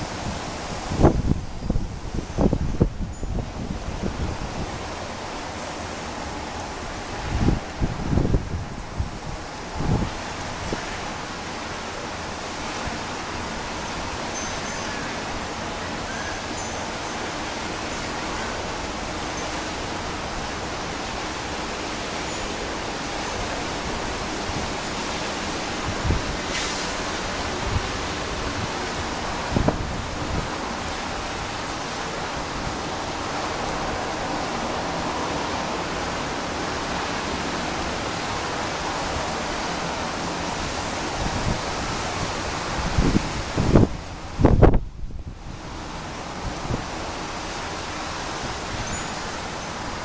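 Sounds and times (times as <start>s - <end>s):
strong wind rushing: 0.0s - 14.4s, 15.0s - 50.0s
wind gusts thumping microphone: 0.0s - 50.0s.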